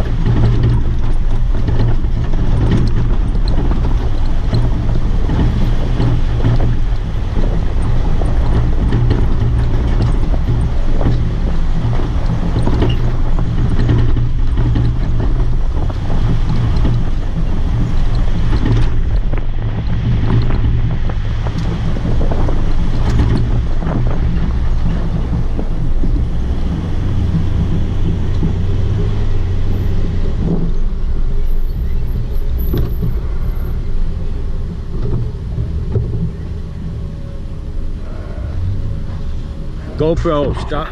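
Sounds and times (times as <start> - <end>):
engine drone: 0.0 - 40.9
knocks and rattles: 0.0 - 40.9
road and wind noise: 0.0 - 40.9.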